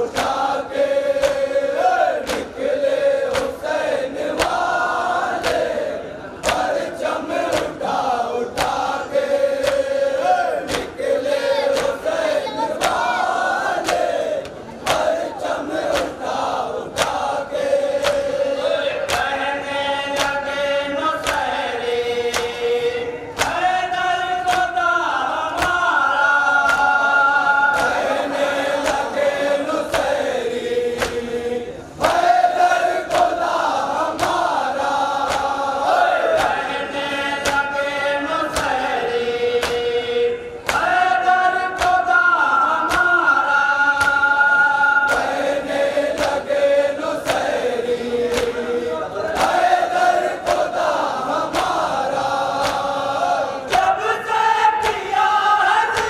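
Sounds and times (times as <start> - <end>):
sharp slaps: 0.0 - 24.8, 25.5 - 25.9, 26.6 - 27.0, 27.7 - 31.3, 32.0 - 40.0, 40.6 - 42.1, 42.7 - 43.2, 43.9 - 44.4, 45.0 - 47.6, 48.2 - 55.2, 55.8 - 56.0
men chanting in unison: 0.0 - 56.0.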